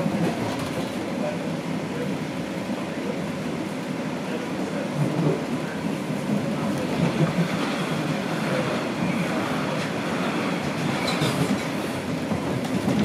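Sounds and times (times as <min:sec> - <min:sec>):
subway wheels on rails: 0:00.0 - 0:13.0.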